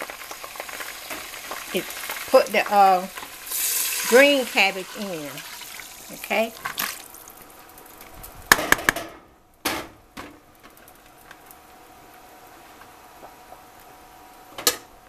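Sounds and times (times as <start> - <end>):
faint oil sizzle: 0.0 - 8.5, 10.4 - 15.0.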